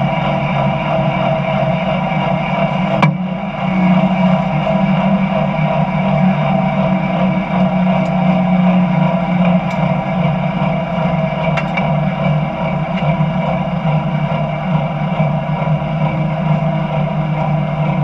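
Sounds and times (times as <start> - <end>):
jet engine idling: 0.0 - 18.0.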